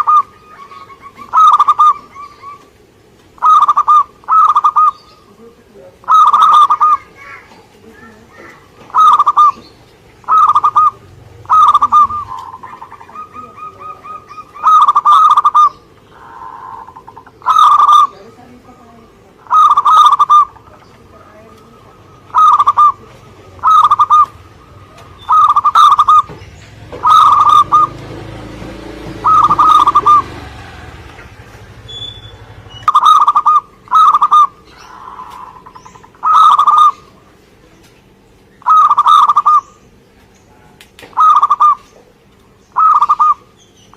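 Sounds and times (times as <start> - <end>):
dove cooing: 0.0 - 37.4, 38.6 - 40.0, 41.1 - 43.9.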